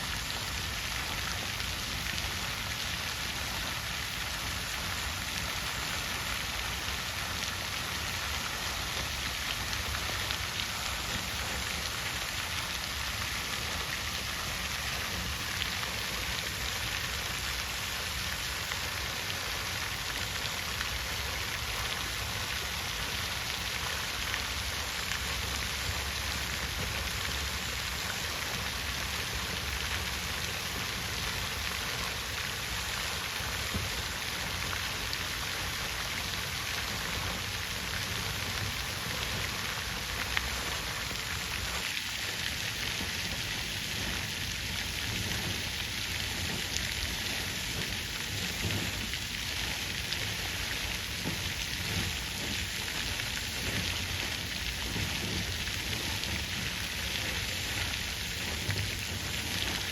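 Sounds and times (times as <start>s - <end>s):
water fountain splashing: 0.0s - 59.9s.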